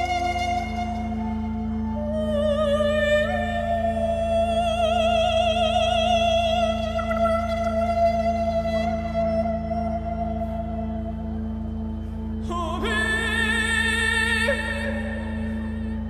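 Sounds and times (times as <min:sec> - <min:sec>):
low drone: 0:00.0 - 0:16.0.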